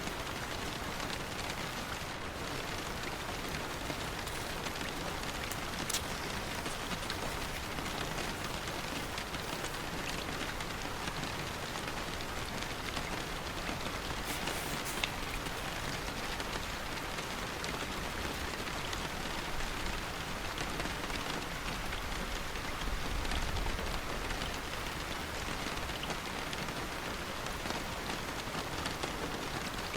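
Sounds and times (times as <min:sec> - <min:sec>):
steady rain patter: 0:00.0 - 0:29.9.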